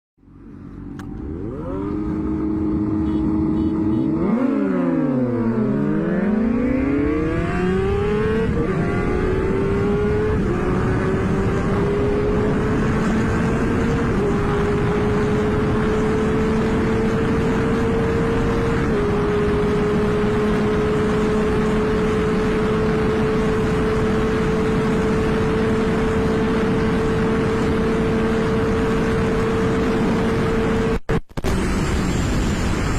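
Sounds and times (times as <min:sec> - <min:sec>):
motorcycle engine accelerating: 0:00.2 - 0:32.9
wind and road noise: 0:00.2 - 0:32.9.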